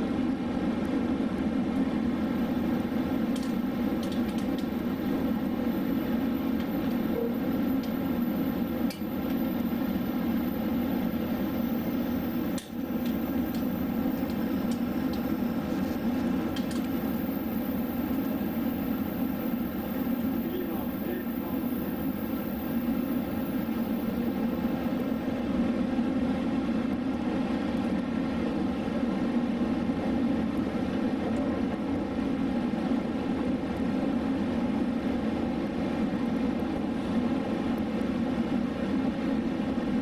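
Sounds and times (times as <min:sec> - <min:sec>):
train carriage hum and rumble: 0:00.0 - 0:40.0.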